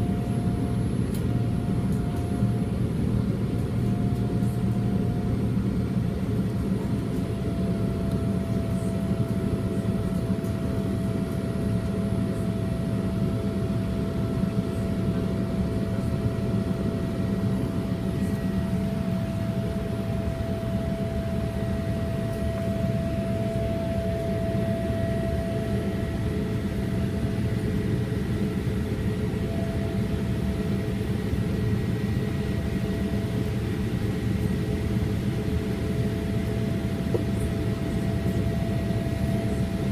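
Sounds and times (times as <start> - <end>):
faint engine whine: 0.0 - 39.9
jet engines rumbling: 0.0 - 39.9.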